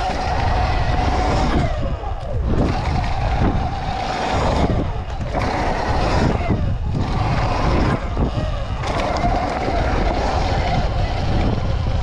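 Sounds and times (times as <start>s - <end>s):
electric motor whining: 0.0s - 12.0s
tyres running on dirt: 0.0s - 12.0s
wind on microphone: 0.0s - 12.0s.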